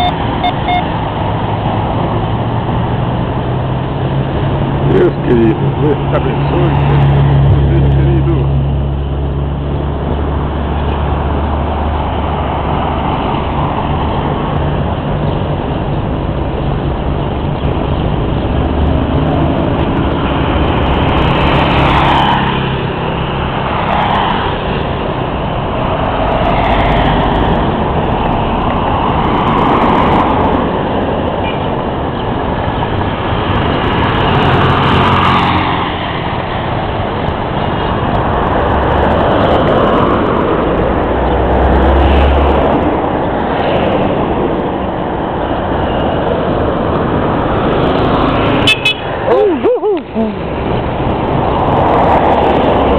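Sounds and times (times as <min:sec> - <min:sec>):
road noise: 0:00.0 - 0:52.9
vehicle engine drone: 0:00.0 - 0:52.9.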